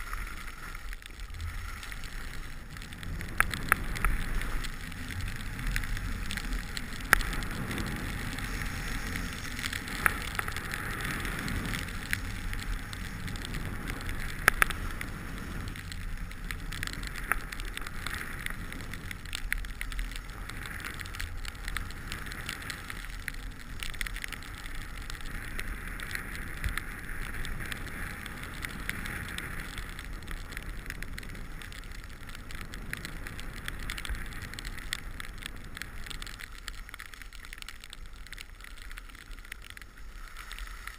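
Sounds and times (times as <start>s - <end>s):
skis scraping over snow: 0.0s - 40.9s.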